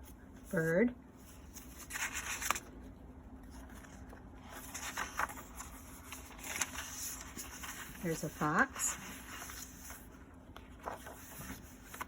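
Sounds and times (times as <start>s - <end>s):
paper rustling and scraping: 0.5s - 2.7s, 3.4s - 12.0s.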